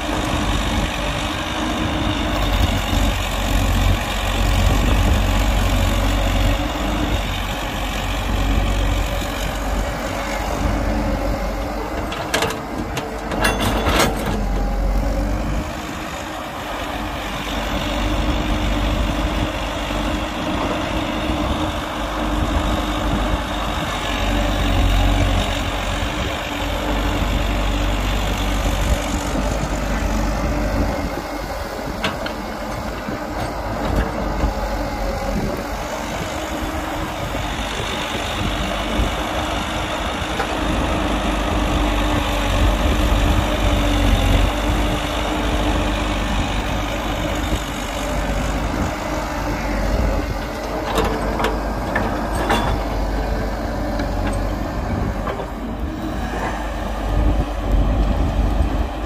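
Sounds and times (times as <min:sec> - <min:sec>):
heavy machinery diesel engines rumbling: 0:00.0 - 0:59.0.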